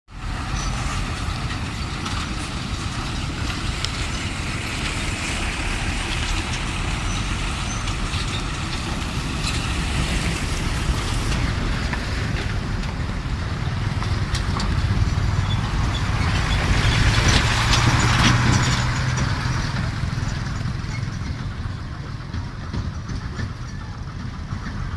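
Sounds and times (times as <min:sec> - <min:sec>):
truck engine rumbling: 0:00.1 - 0:24.9.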